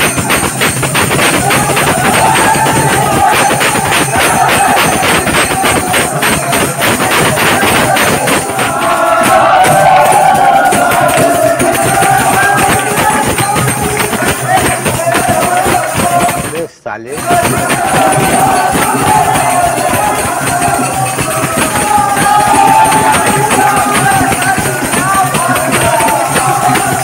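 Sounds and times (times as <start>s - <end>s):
drum beat: 0.0s - 27.0s
jingling metal percussion: 0.0s - 27.0s
men singing loudly together: 0.0s - 27.0s.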